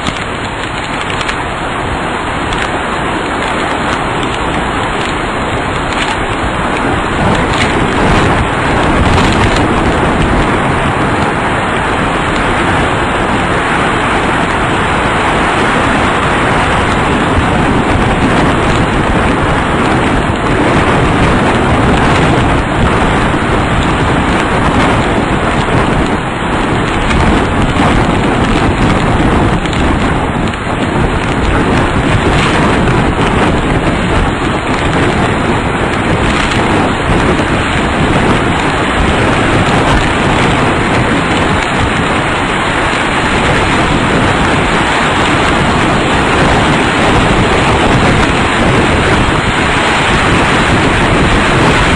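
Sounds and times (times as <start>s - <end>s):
heavy rain: 0.0s - 51.9s
storm wind roaring: 0.0s - 51.9s.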